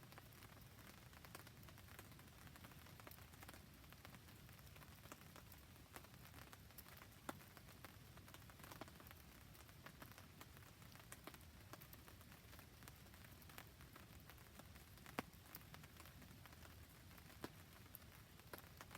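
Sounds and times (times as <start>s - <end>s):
faint rain patter: 0.0s - 18.9s
campfire crackling: 0.1s - 18.9s.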